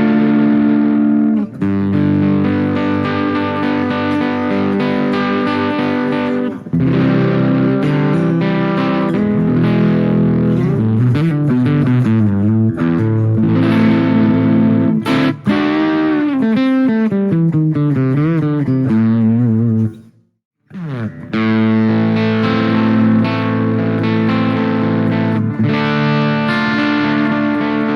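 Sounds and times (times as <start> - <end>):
distorted electric guitar: 0.0 - 27.9.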